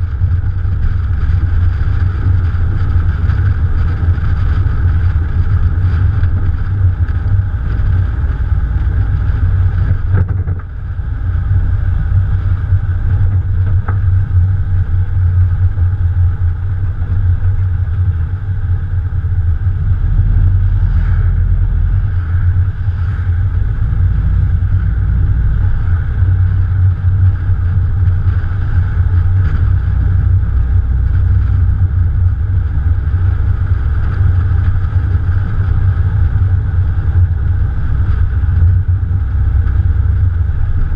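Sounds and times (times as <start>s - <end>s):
car engine rumbling: 0.0s - 40.9s
wind noise on microphone: 0.0s - 40.9s.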